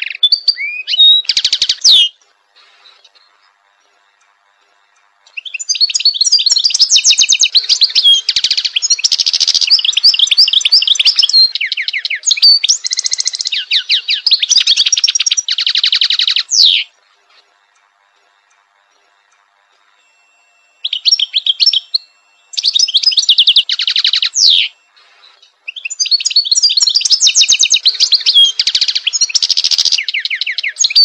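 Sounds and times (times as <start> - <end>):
goldfinch twittering song: 0.0 - 3.5, 5.3 - 16.9, 20.2 - 31.0.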